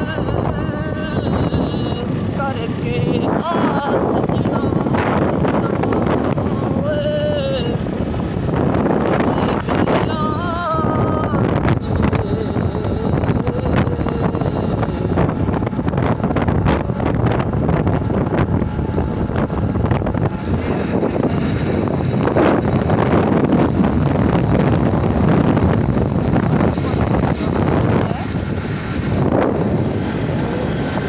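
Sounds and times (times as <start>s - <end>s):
steady low rumble: 0.0s - 31.0s
wind buffeting microphone: 0.0s - 31.0s.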